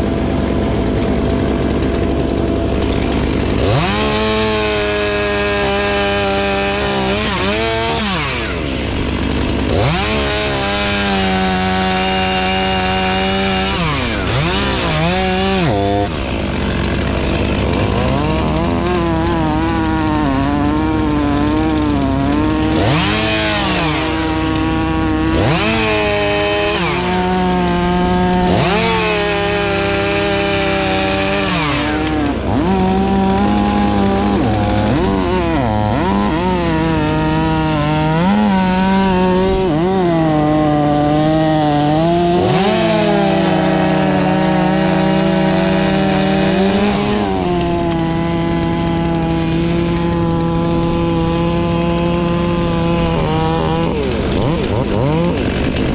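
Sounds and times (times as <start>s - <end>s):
chainsaw running: 0.0s - 55.9s.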